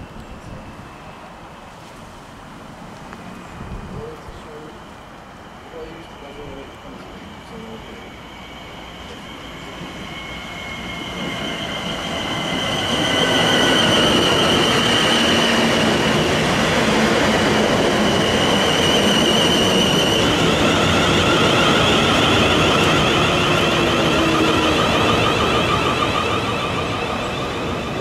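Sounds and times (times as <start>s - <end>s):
train wheels rumbling: 1.9s - 28.0s.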